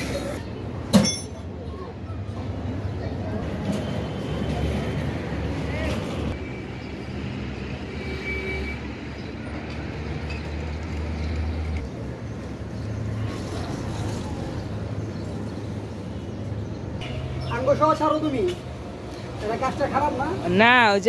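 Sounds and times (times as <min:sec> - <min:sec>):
street noise: 0:00.0 - 0:21.0.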